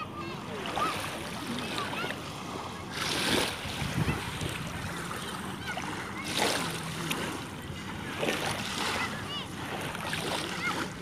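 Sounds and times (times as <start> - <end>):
small waves washing over shore: 0.0 - 11.0.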